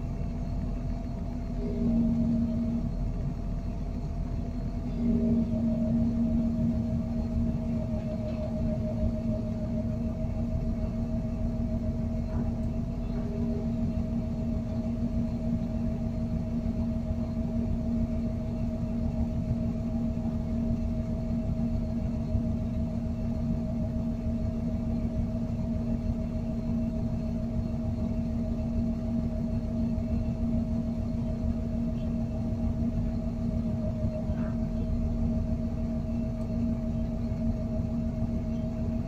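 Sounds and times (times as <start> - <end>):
crane engine droning: 0.0 - 39.0.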